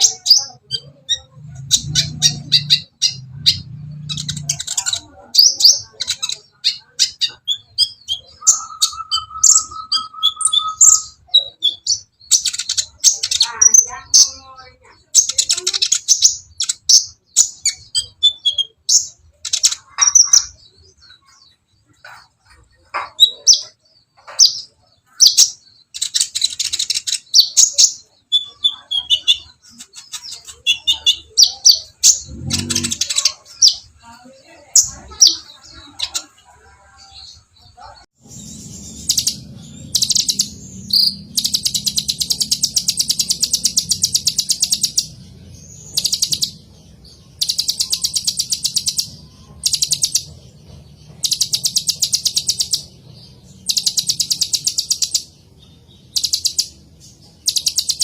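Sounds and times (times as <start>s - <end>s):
bird chirping and trilling: 0.0s - 58.0s.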